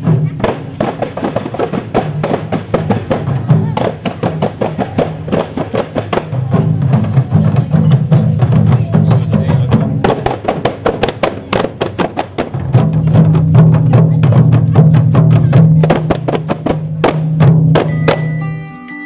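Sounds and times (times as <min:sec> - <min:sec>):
rapid dense drumbeats: 0:00.0 - 0:18.3.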